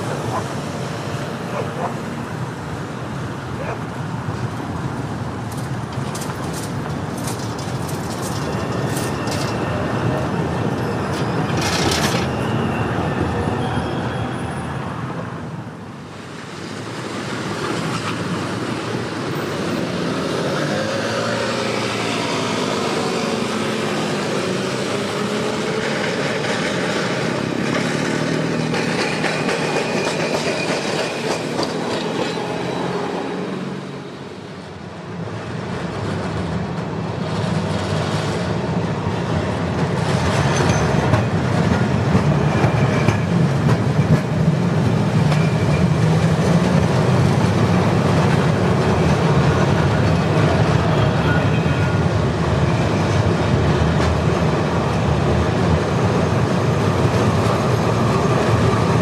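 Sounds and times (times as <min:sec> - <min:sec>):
tram wheels rattling on rails: 0:00.0 - 0:59.0.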